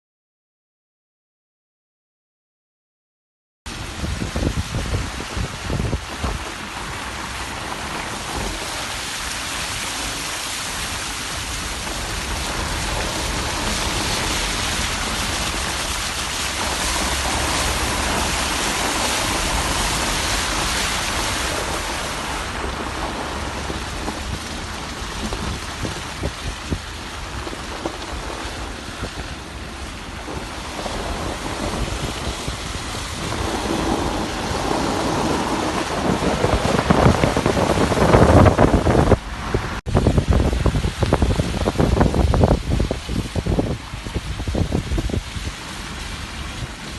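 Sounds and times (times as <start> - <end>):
heavy rain pouring: 3.7 - 46.9.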